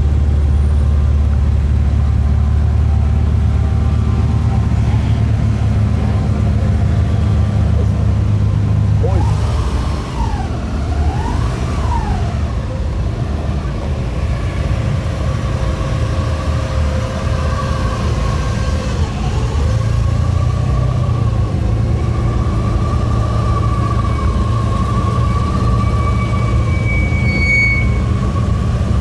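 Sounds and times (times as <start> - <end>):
car engine revving and droning: 0.0 - 29.0.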